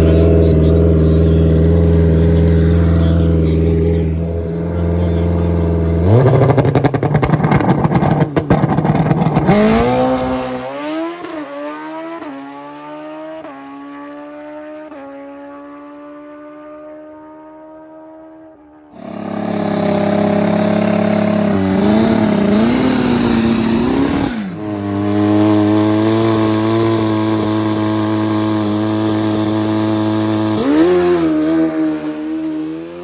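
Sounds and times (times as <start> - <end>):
motorcycle engine revving: 0.0 - 18.2, 19.0 - 33.0.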